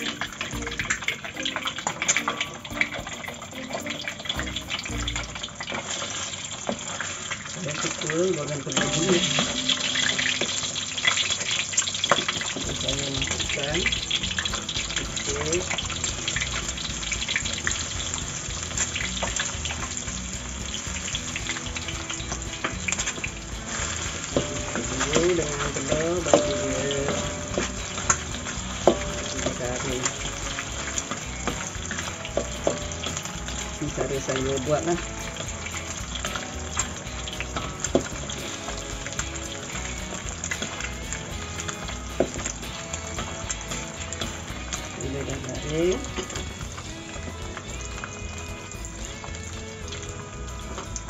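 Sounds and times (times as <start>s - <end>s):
eggs frying in hot oil: 0.0s - 51.0s.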